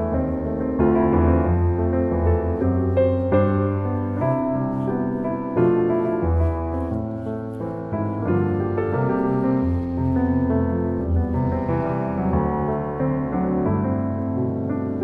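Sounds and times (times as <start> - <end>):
slow piano piece: 0.0 - 15.0.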